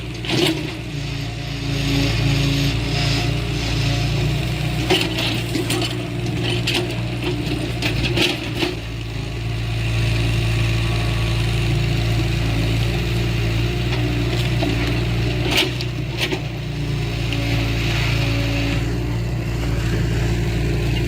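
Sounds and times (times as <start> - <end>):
heavy machinery diesel engine running: 0.0 - 21.0.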